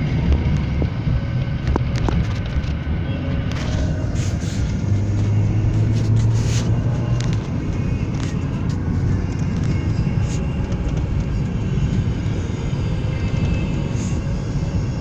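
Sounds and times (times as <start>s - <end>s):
car engine and road noise: 0.0s - 15.0s
low hum: 0.0s - 15.0s.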